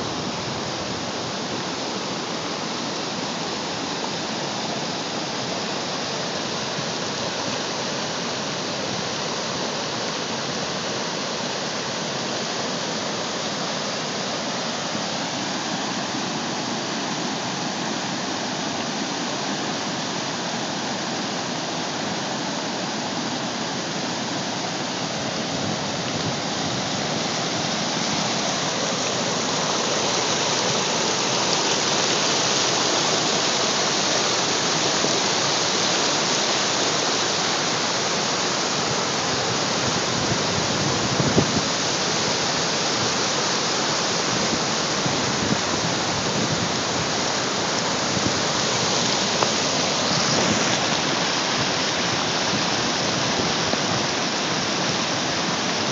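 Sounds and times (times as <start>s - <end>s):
flood water rushing: 0.0s - 55.9s.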